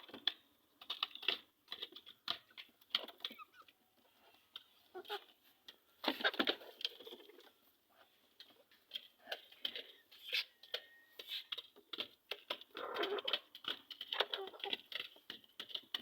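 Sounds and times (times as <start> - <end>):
chickens pecking and scratching: 0.0 - 16.0.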